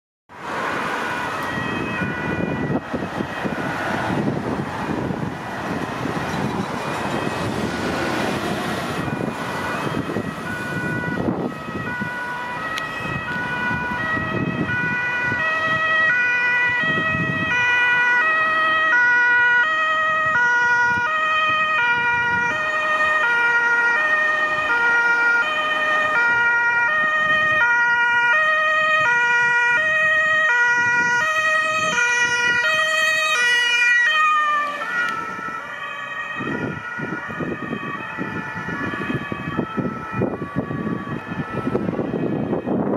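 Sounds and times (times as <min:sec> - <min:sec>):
ambulance two-tone siren: 0:00.3 - 0:42.9
passing traffic: 0:00.3 - 0:42.9.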